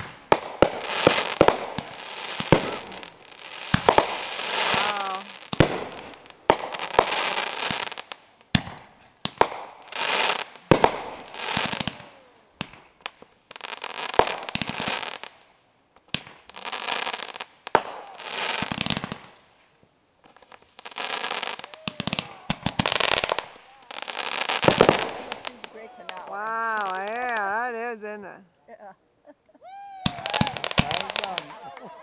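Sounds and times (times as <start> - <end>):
fireworks bursting and crackling: 0.0 - 28.4, 30.0 - 32.0.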